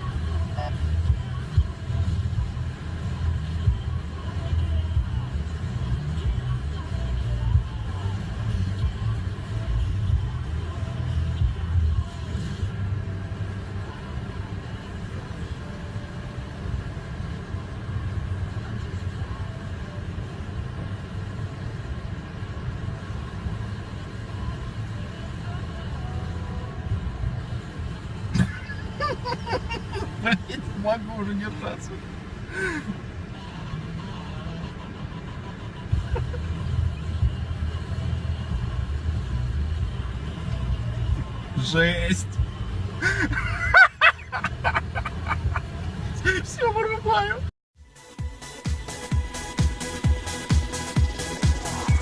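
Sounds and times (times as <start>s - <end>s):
car engine rumble: 0.0s - 52.0s
road noise: 0.0s - 52.0s.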